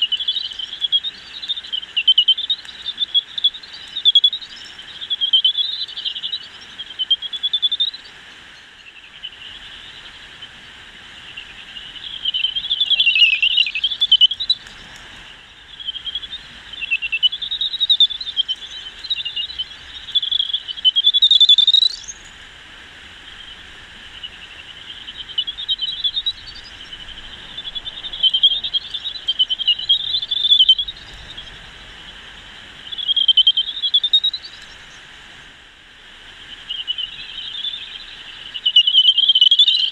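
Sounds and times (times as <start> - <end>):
bat echolocation calls: 0.0 - 8.2, 11.2 - 14.8, 15.4 - 22.4, 23.2 - 35.0, 36.4 - 39.9
steady hiss: 0.0 - 39.9.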